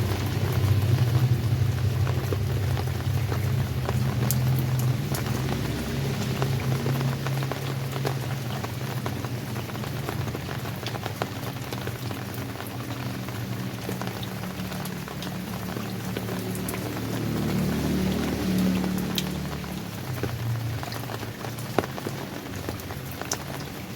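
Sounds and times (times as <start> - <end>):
raindrops ticking: 0.0 - 23.9
steady rain falling: 0.0 - 23.9.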